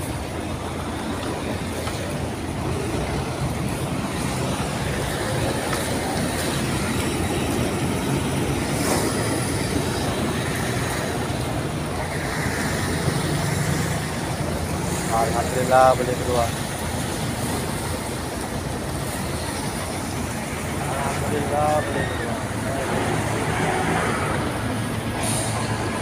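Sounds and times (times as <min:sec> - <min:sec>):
diesel truck engine rumble: 0:00.0 - 0:26.0
tyre and road noise: 0:00.0 - 0:26.0.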